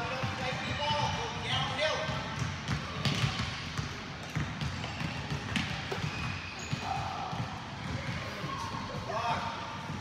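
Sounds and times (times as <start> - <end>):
basketballs bouncing on wooden floor: 0.0 - 10.0.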